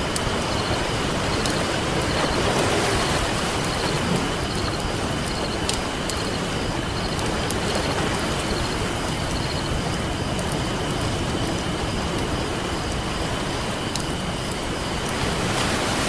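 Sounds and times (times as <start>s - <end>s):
campfire crackling and popping: 0.0s - 15.3s
ocean surf: 0.0s - 16.0s.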